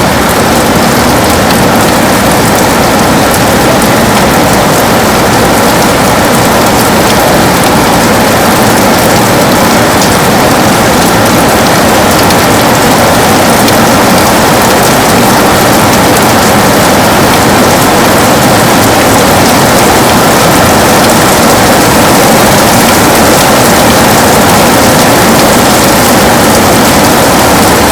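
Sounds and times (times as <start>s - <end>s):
heavy rain on a window: 0.0s - 27.9s.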